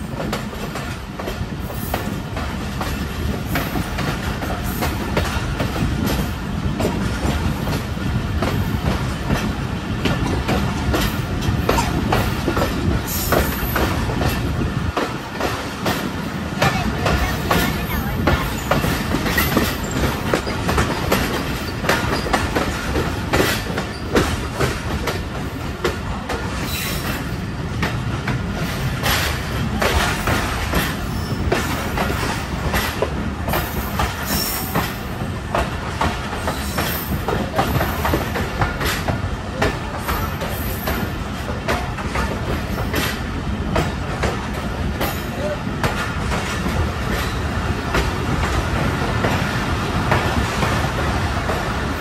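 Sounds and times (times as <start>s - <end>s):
train wheels rumbling on rails: 0.0s - 52.0s
wheels clacking over rail joints: 0.0s - 52.0s.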